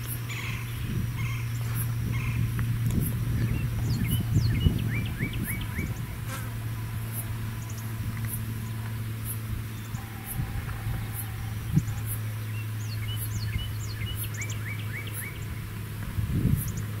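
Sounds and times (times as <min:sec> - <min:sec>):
insects chirping: 0:00.0 - 0:17.0
low rumble: 0:00.0 - 0:17.0.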